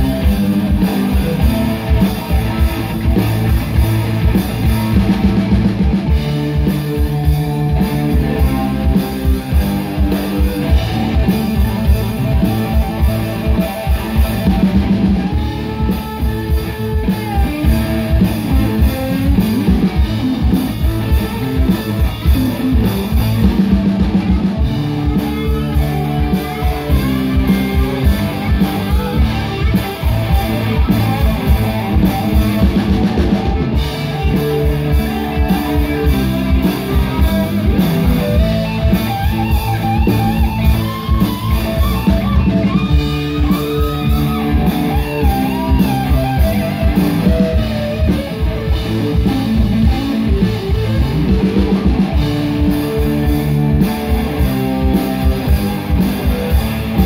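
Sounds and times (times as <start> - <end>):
bass guitar: 0.0 - 57.0
drum kit steady beat: 0.0 - 57.0
electric guitar: 0.0 - 57.0.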